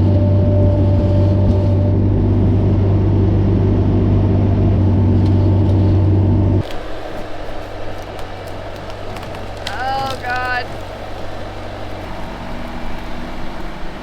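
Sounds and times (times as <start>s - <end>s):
skid steer engine running: 0.0s - 14.0s.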